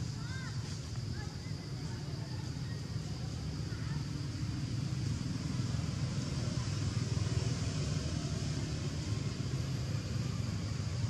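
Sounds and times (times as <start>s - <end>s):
hiss: 0.0s - 11.0s.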